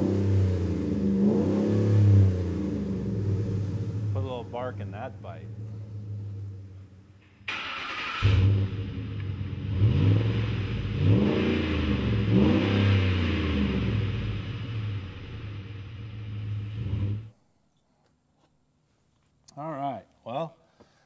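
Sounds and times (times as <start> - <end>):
engine revving: 0.0 - 17.3.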